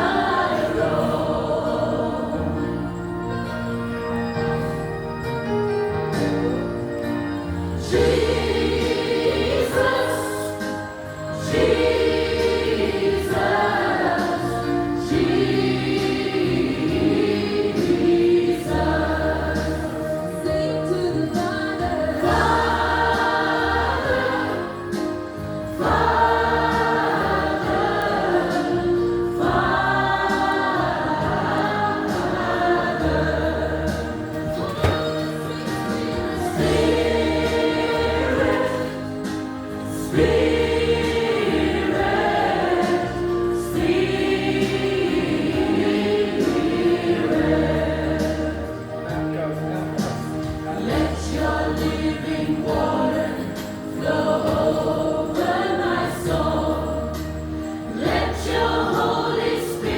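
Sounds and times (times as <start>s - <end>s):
women's choir singing a hymn: 0.0s - 3.7s, 7.5s - 59.9s
keyboard accompaniment: 0.0s - 59.9s.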